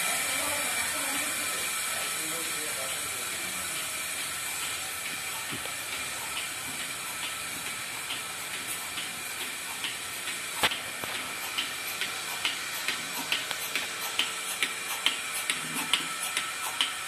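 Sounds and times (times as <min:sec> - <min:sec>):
milking machine pulsator clicks: 0:00.0 - 0:17.0.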